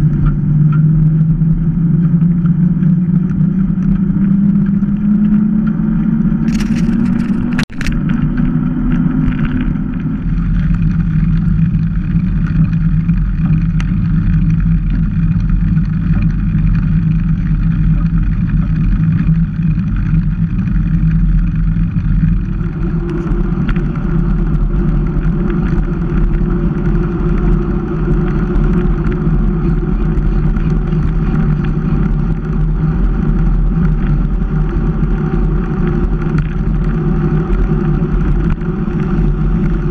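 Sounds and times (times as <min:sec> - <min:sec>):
bike tyres humming on asphalt: 0:00.0 - 0:39.9
wind rumble on microphone: 0:00.0 - 0:39.9.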